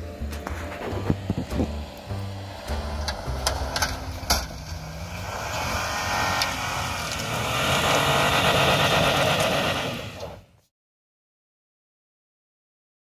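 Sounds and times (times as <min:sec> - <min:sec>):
truck engine revving hard: 0:00.0 - 0:10.5
tyres spinning in snow: 0:00.1 - 0:10.6.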